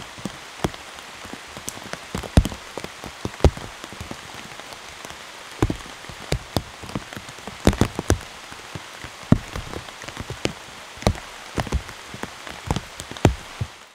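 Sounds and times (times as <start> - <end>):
large raindrops striking: 0.0 - 13.9
rain hiss in forest: 0.0 - 13.9.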